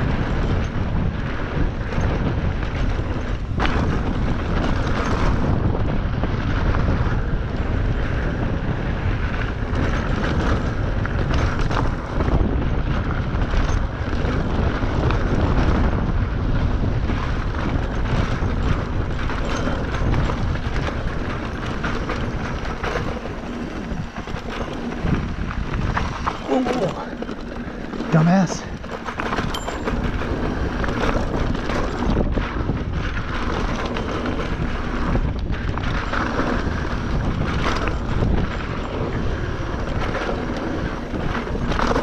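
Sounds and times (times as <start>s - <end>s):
bike rattling over rocks: 0.0s - 42.0s
constant rumble: 0.0s - 42.0s
wind rushing over microphone: 0.0s - 42.0s.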